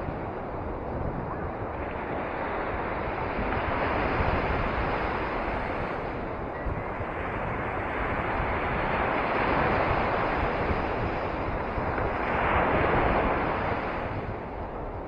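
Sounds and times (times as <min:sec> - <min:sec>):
sea waves washing onto shore: 0:00.0 - 0:15.0.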